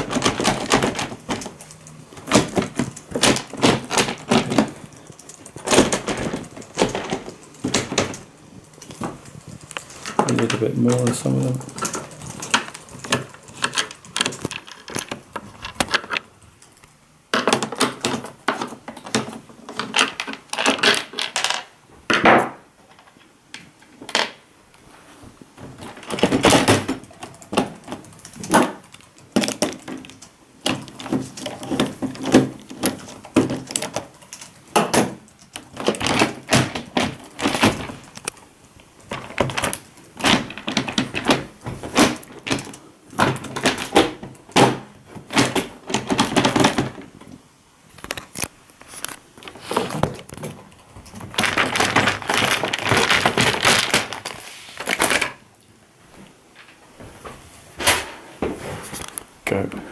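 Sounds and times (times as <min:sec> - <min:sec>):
plastic cover clicks and rattles: 0:00.0 - 0:23.2, 0:25.7 - 0:55.4.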